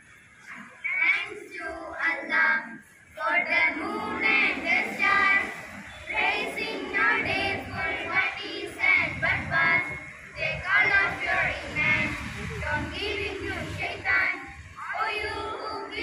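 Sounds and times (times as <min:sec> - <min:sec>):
girls singing together: 0:00.4 - 0:16.0.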